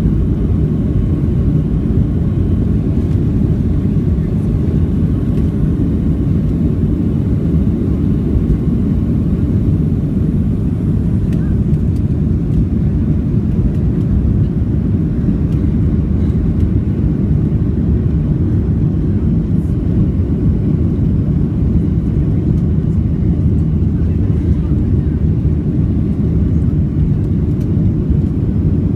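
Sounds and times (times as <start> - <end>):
jet engine cabin rumble: 0.0 - 28.9.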